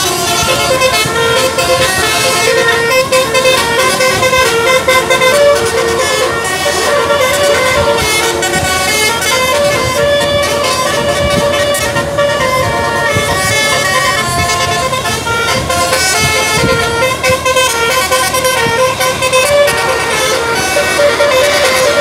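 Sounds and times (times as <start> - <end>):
bus engine rumble: 0.0 - 22.0
musical air horn melody: 0.0 - 22.0.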